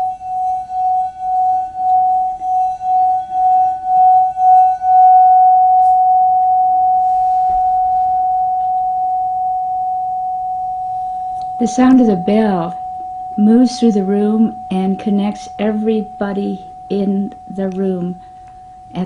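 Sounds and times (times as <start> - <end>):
ritual bell ringing: 0.0 - 19.0.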